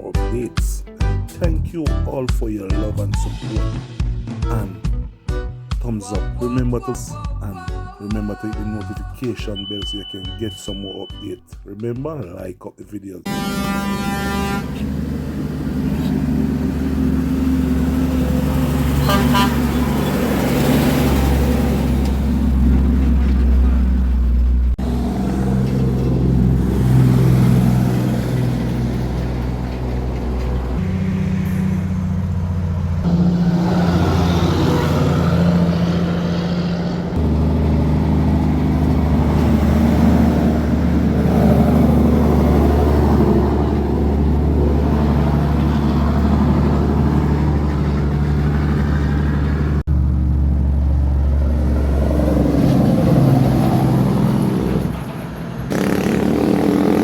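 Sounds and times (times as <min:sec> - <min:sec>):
truck and car engines: 0:00.0 - 0:11.4, 0:13.3 - 0:57.0.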